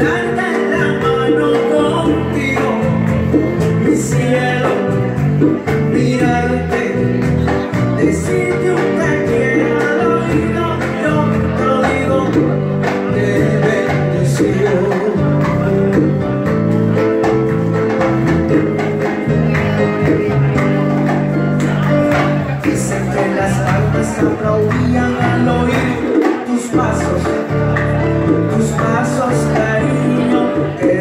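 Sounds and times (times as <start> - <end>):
hand drums playing: 0.0 - 31.0
keyboard playing: 0.0 - 31.0.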